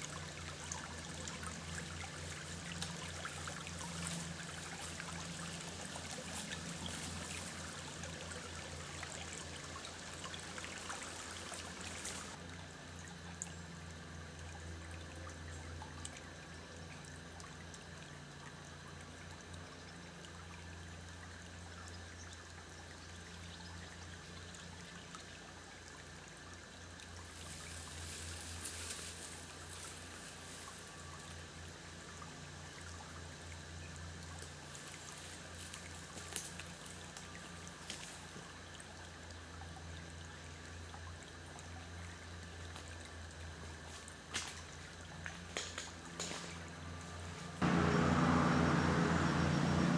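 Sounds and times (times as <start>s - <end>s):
creek trickling over stones: 0.0s - 49.9s.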